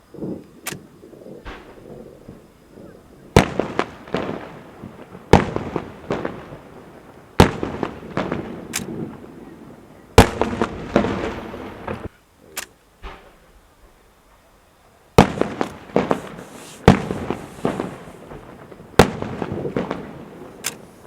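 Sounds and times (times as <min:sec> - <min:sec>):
fireworks bangs: 0:00.0 - 0:12.2, 0:12.9 - 0:21.0
small crackling fireworks: 0:00.0 - 0:21.0.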